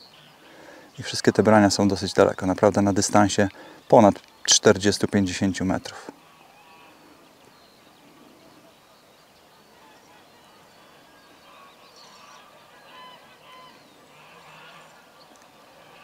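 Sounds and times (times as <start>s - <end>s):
bird calls: 0.0s - 16.0s.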